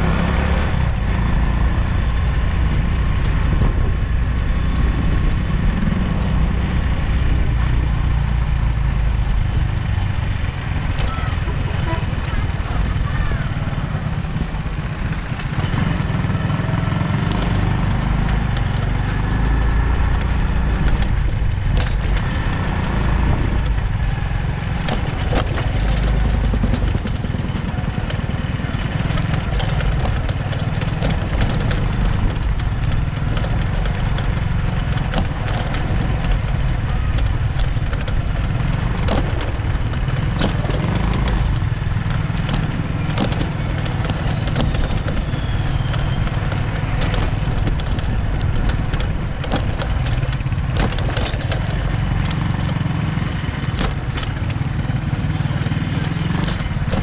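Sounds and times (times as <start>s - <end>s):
bike rumbling on dirt road: 0.0s - 57.0s
rattling clicks and crackles: 0.0s - 57.0s.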